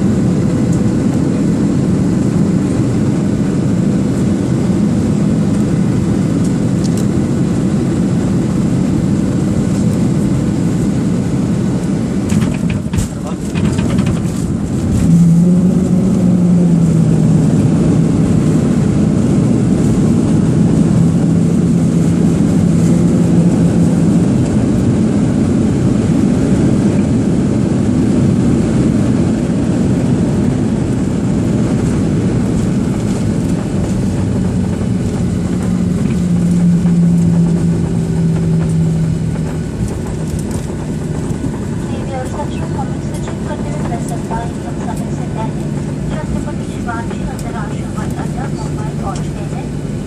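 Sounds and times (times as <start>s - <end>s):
jet cabin engine rumble: 0.0s - 50.0s.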